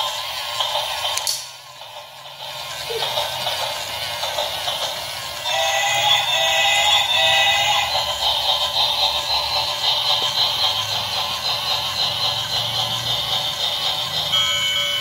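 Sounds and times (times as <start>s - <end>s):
toy train electronic tune with singing: 0.0s - 15.0s.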